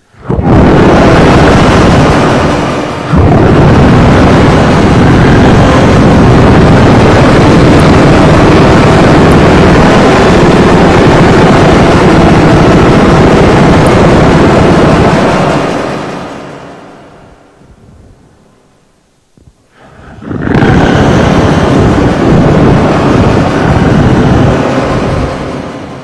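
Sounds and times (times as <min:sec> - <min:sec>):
distorted static noise music: 0:00.0 - 0:26.0.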